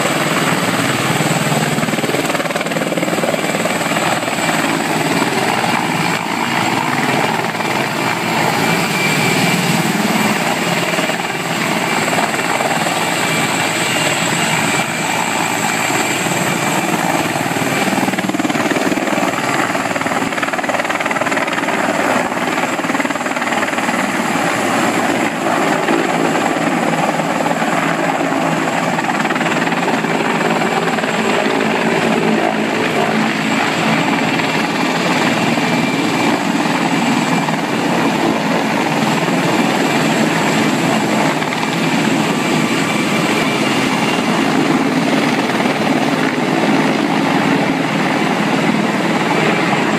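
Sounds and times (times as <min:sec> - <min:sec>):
helicopter rotor noise: 0:00.0 - 0:49.9
turbine engine whine: 0:00.0 - 0:49.9.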